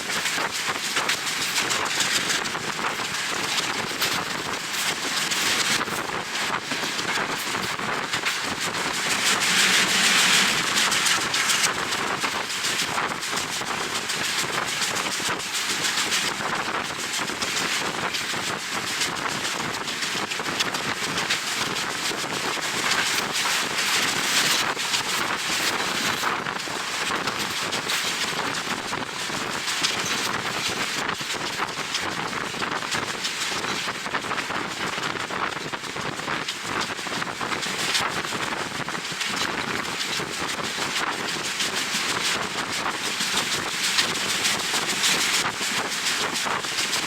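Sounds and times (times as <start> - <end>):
train running: 0.0 - 47.0.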